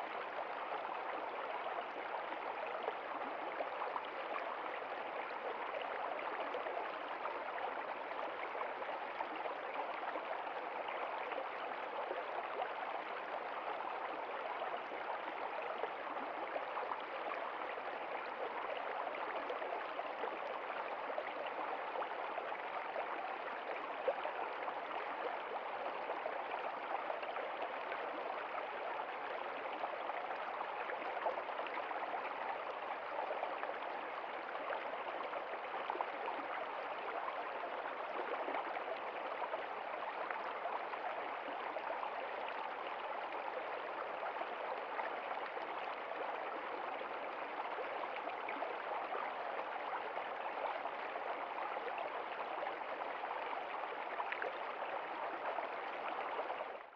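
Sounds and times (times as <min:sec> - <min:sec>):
stream running over rocks: 0:00.0 - 0:56.9.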